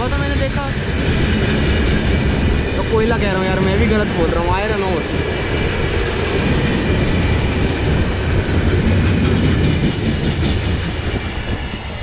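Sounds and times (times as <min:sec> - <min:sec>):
train wagons rumbling on rails: 0:00.0 - 0:12.0.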